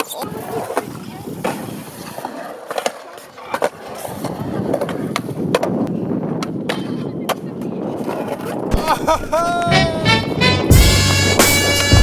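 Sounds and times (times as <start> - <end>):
skateboard clacking on ground: 0.0 - 9.8, 11.0 - 12.0
skateboard wheels rolling: 0.0 - 12.0.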